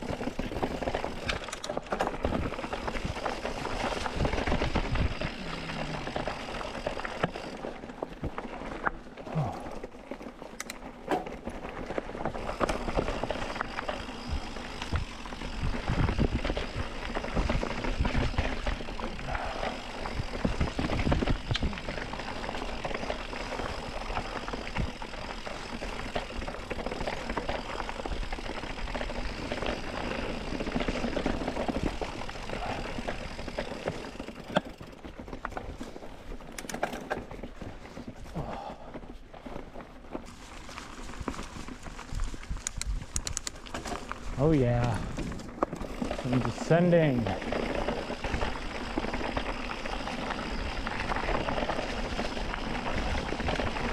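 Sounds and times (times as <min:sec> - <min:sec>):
mountain bike rattling over rocks: 0:00.0 - 0:53.9.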